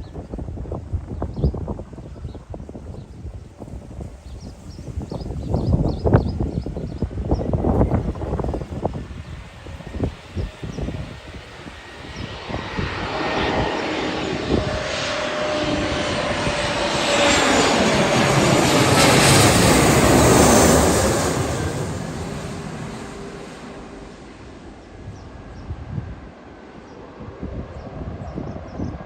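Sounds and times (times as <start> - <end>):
airliner engine roar: 0.0 - 29.0.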